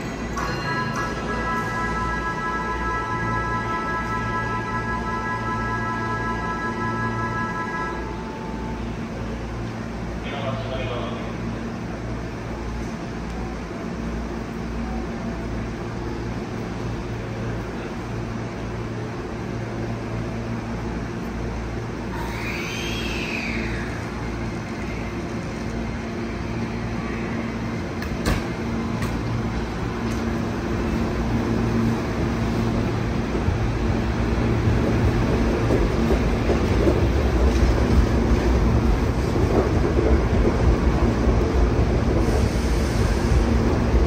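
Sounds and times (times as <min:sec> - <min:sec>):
electric train rumbling: 0:00.0 - 0:44.0.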